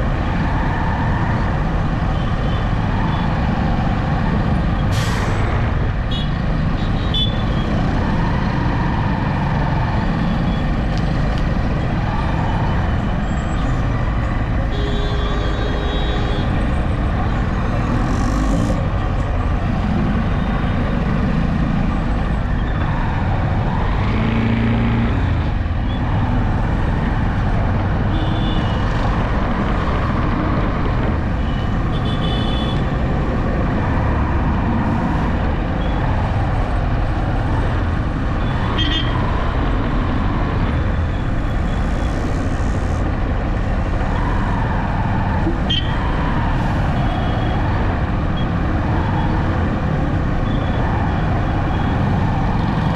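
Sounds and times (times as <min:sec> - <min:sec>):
vehicle engine and road noise: 0:00.0 - 0:52.9.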